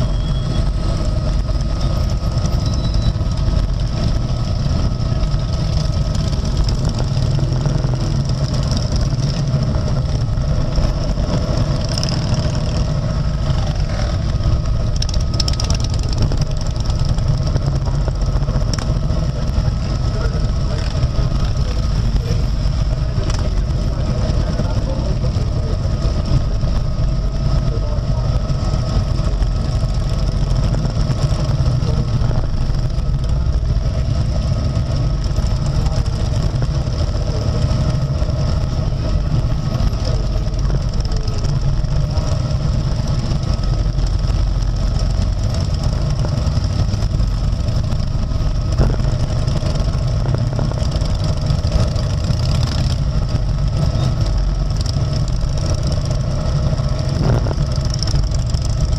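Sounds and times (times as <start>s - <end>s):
motorcycle engines idling: 0.0s - 58.9s.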